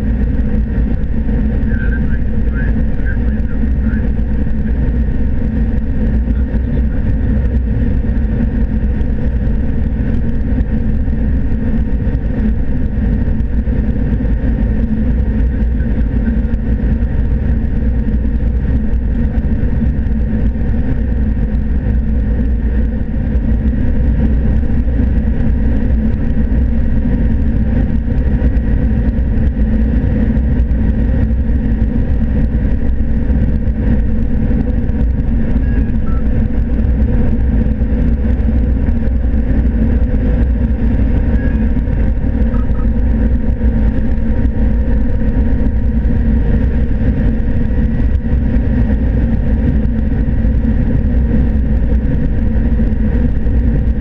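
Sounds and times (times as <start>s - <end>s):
combine harvester drone from cab: 0.0s - 54.0s.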